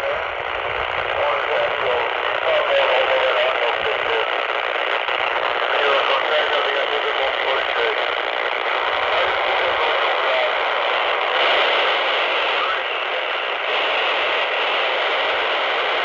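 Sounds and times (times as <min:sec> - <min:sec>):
radio receiver hiss: 0:00.0 - 0:16.0.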